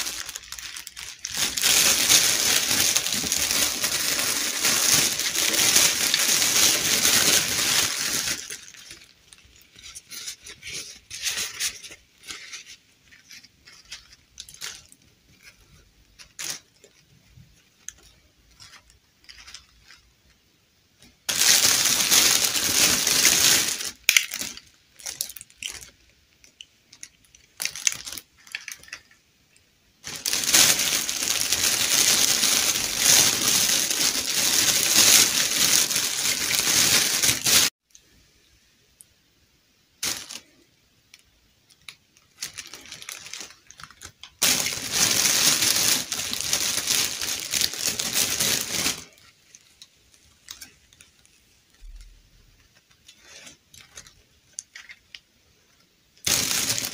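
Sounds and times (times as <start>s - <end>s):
plastic bag crinkling: 0.0s - 20.4s, 21.3s - 29.2s, 30.0s - 37.8s, 40.0s - 56.9s.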